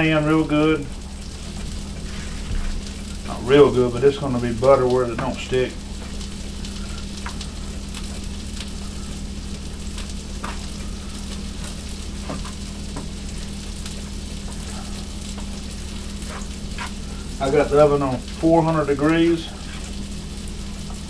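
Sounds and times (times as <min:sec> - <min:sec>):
low steady hum: 0:00.0 - 0:21.0
patties sizzling in a skillet: 0:00.0 - 0:21.0.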